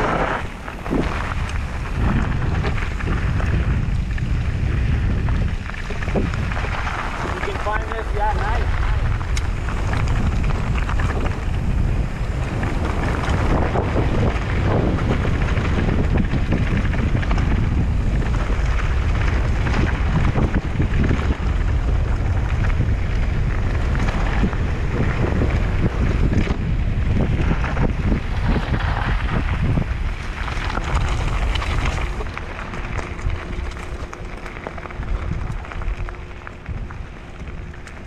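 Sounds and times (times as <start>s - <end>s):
tyres rolling on loose gravel: 0.0s - 38.0s
wind buffeting microphone: 0.0s - 38.0s.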